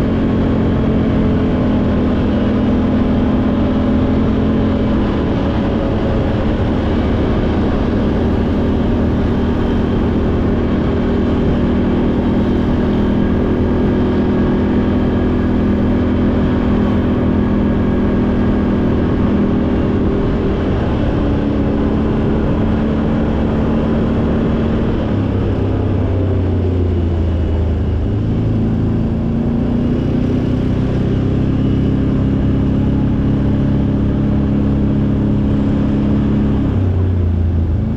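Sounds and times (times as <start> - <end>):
atv engine droning: 0.0 - 37.9.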